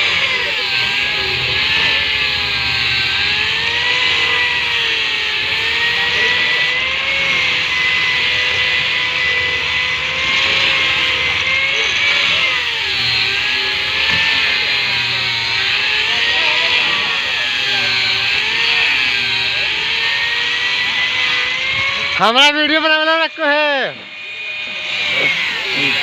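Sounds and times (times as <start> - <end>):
electric grinder whining: 0.0 - 26.0
grinding disc hiss: 0.0 - 26.0.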